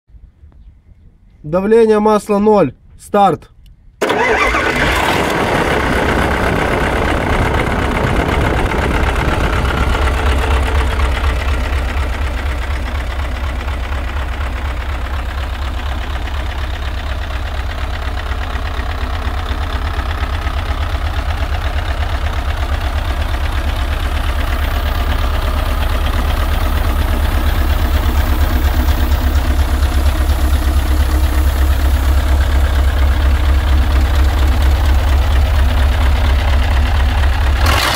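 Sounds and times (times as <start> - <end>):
diesel engine idling: 4.0 - 37.9.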